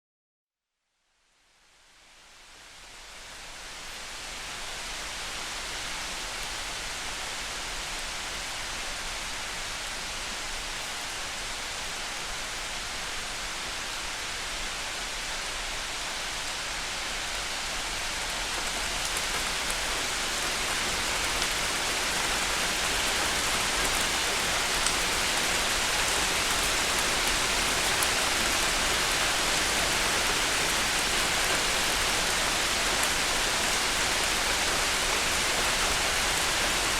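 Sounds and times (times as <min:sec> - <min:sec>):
steady rain falling: 0:01.4 - 0:36.9.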